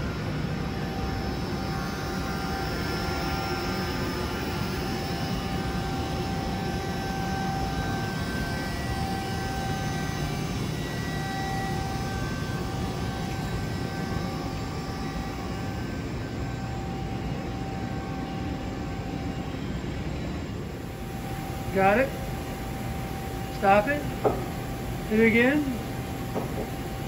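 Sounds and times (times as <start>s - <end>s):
faint whining tones: 0.0s - 27.0s
industrial machinery drone: 0.0s - 27.0s.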